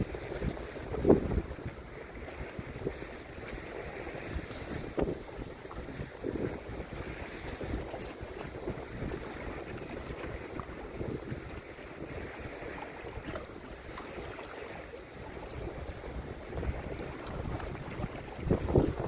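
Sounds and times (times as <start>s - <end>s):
wash of the sea: 0.0s - 19.0s
wind buffeting microphone: 0.0s - 19.0s.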